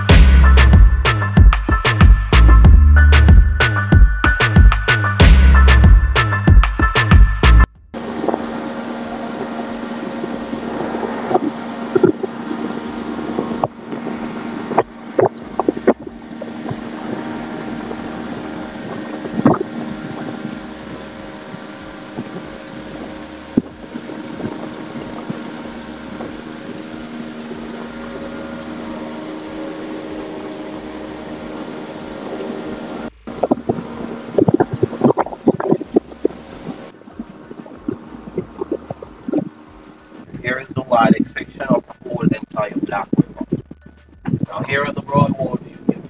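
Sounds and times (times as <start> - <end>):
boat motor humming: 0.0 - 46.0.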